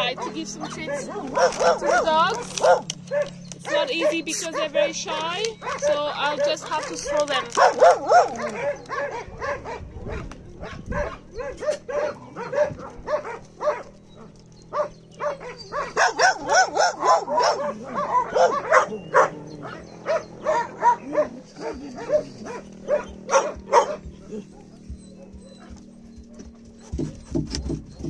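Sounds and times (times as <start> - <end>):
dogs barking: 0.0 - 28.0.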